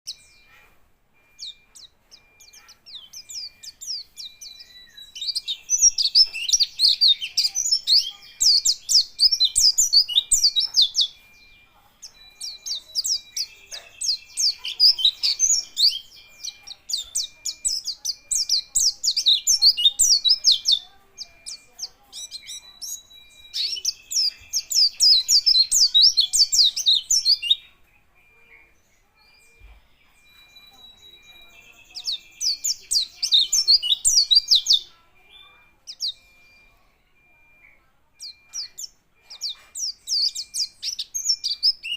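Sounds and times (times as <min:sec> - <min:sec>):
bird twittering chirps: 0:00.0 - 0:41.9.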